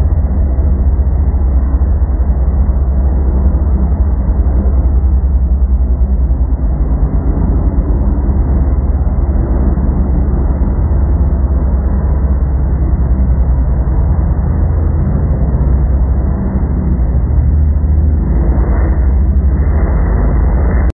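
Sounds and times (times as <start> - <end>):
loud low rumble: 0.0 - 20.9.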